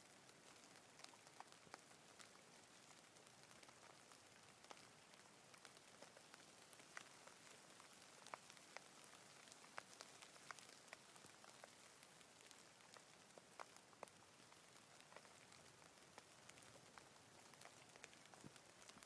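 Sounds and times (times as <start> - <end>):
light rain hiss: 0.0 - 19.0
raindrops ticking: 0.0 - 19.0.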